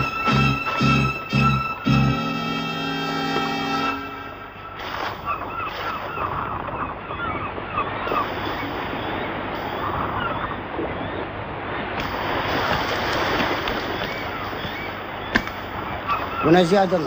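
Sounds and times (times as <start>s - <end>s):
birds calling: 0.0s - 17.0s
waves washing on shore: 0.0s - 17.0s.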